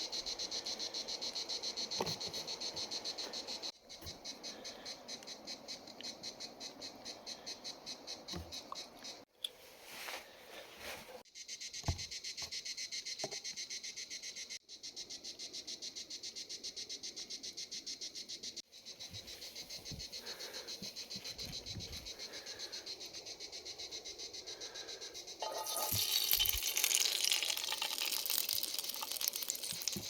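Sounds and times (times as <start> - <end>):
crickets chirping: 0.0 - 9.3, 10.0 - 30.0.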